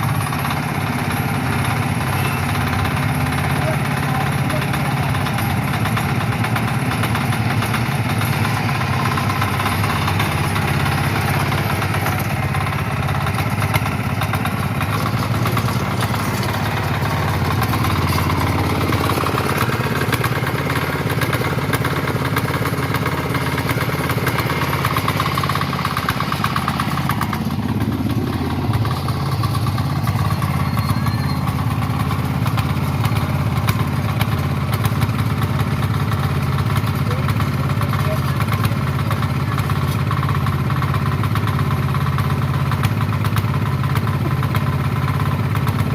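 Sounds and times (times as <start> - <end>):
power weeder engine idling: 0.0 - 45.9.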